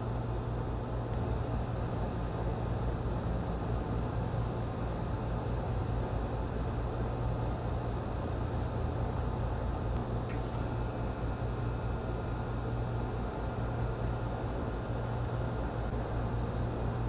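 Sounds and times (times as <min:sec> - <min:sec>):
compressor hum: 0:00.0 - 0:17.0
fan rushing air: 0:00.0 - 0:17.0.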